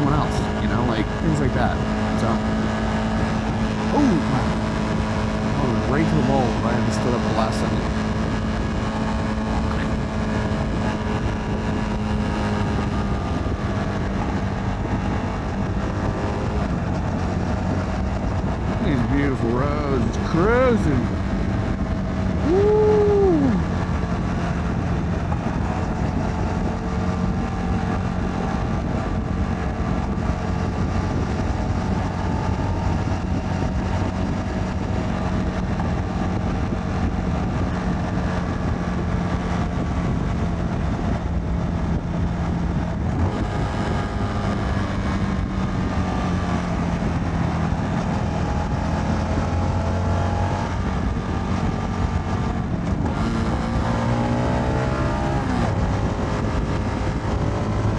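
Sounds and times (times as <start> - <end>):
motorcycle engine cruising: 0.0 - 57.9
wind rushing over microphone: 0.0 - 57.9.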